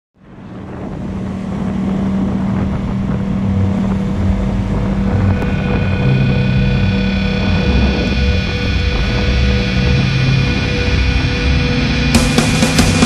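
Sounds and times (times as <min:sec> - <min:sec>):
wind rushing over microphone: 0:00.2 - 0:13.0
motorcycle engine running: 0:01.0 - 0:13.0.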